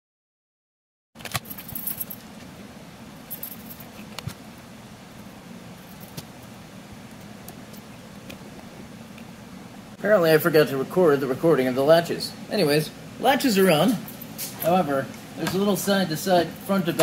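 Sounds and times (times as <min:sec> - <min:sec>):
low shop hum: 0:01.2 - 0:17.0.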